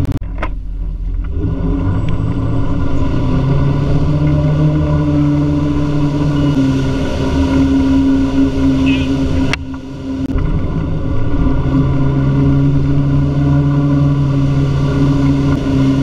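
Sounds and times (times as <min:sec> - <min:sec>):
boat engine running under load: 0:00.0 - 0:16.0.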